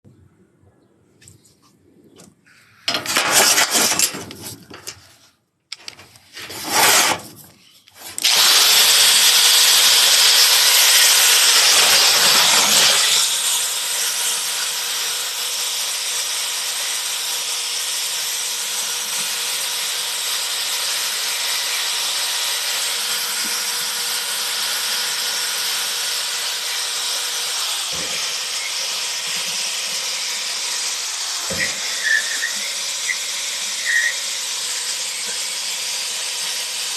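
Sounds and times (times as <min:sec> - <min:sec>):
power grinder grinding: 0:02.9 - 0:05.0, 0:05.8 - 0:36.9.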